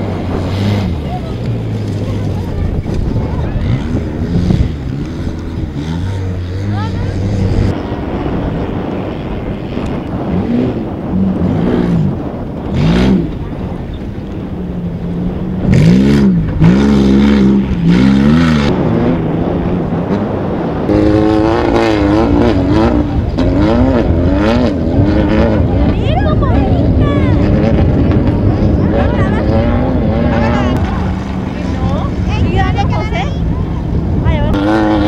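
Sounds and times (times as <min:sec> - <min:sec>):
buggy engines revving: 0:00.0 - 0:35.0.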